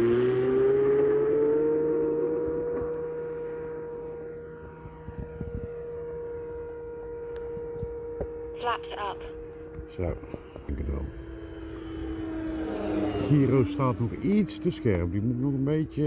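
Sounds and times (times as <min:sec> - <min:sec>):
model plane motor whining: 0:01.8 - 0:08.5, 0:09.3 - 0:16.0.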